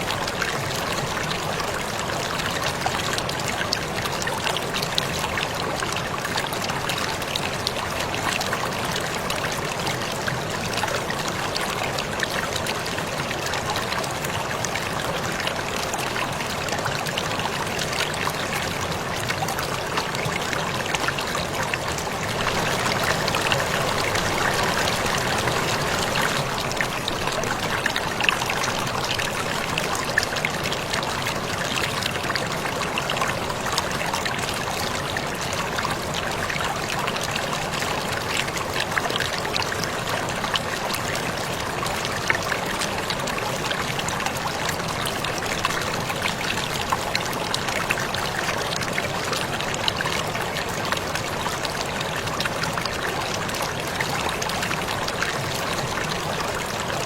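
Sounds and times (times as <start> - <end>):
waterfall rushing and splashing: 0.0 - 57.0.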